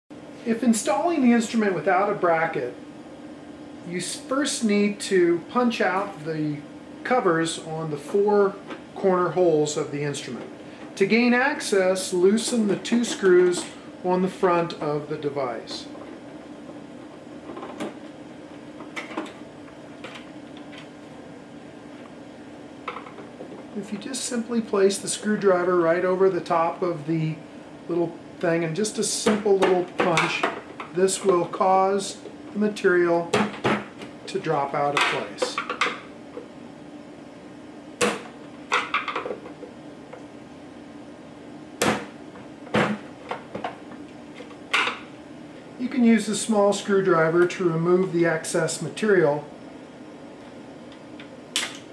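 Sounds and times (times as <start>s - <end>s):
steady low hum: 0.1s - 51.9s.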